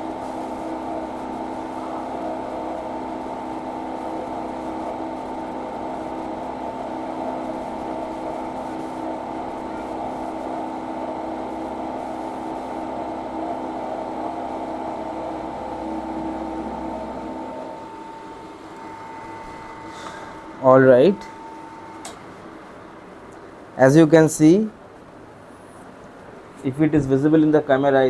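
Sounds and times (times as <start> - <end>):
milling machine drone: 0.0 - 24.8.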